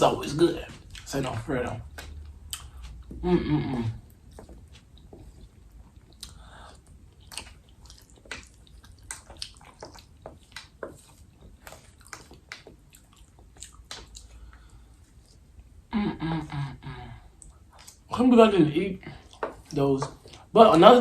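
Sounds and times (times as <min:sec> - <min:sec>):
person chewing wet food: 0:00.2 - 0:15.8, 0:17.2 - 0:18.2, 0:19.0 - 0:20.5.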